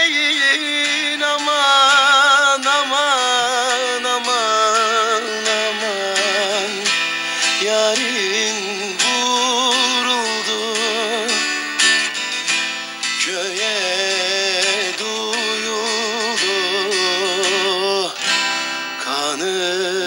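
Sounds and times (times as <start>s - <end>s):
plucked string music: 0.0s - 20.0s.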